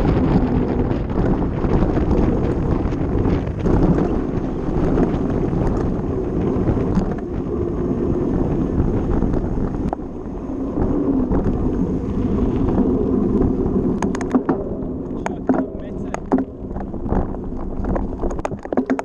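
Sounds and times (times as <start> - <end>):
bike tyres rumbling on gravel: 0.0 - 19.0
wind buffeting microphone: 0.0 - 19.0.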